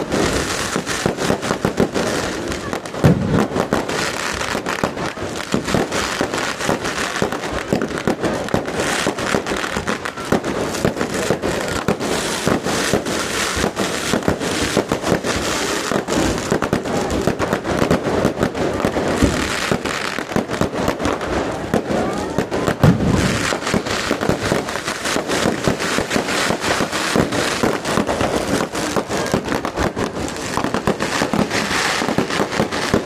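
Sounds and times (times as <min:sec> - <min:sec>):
fireworks cracking and banging: 0:00.0 - 0:33.0.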